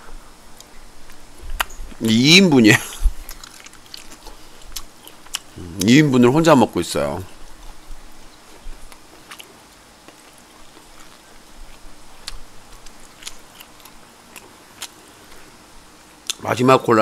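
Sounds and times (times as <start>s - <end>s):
person chewing food: 0.5s - 2.1s, 2.8s - 5.9s, 7.2s - 16.4s.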